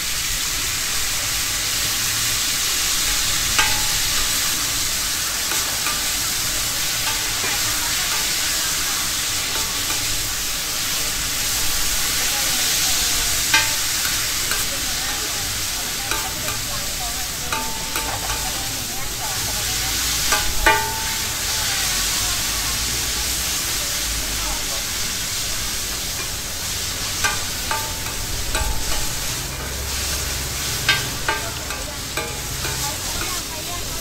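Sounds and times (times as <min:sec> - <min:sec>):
noodles sizzling in a pan: 0:00.0 - 0:34.0
metal utensils clinking on pan: 0:01.7 - 0:34.0.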